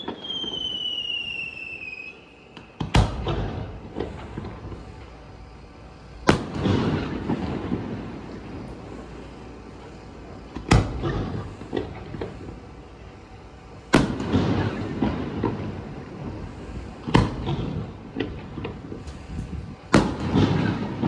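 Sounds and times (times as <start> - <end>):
fireworks booms: 0.0 - 1.9, 2.5 - 21.0
fireworks crackles: 0.0 - 21.0.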